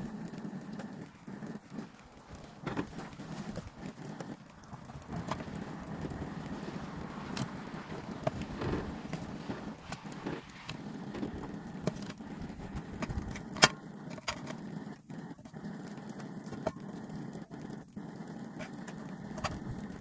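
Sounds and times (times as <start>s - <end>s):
cooling metal crackling and ticking: 0.0s - 20.0s.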